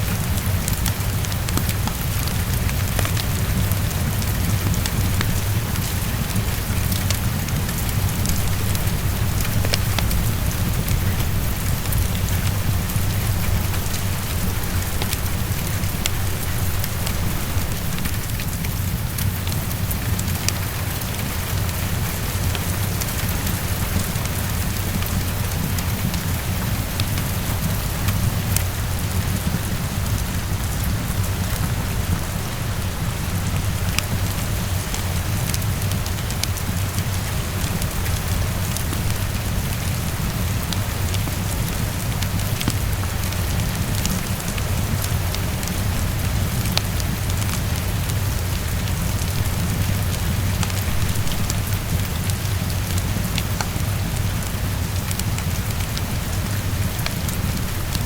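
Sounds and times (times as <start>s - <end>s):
heavy rain against window: 0.0s - 58.0s.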